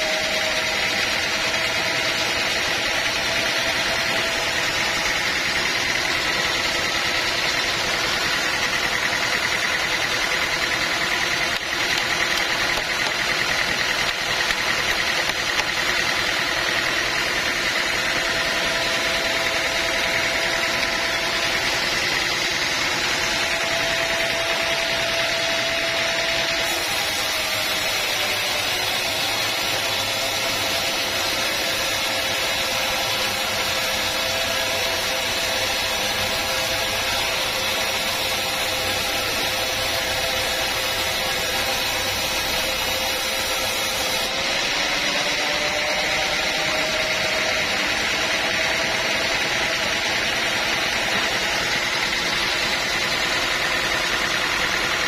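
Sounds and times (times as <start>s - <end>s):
saw high whine: 0.0s - 55.0s
sawmill machinery din: 0.0s - 55.0s.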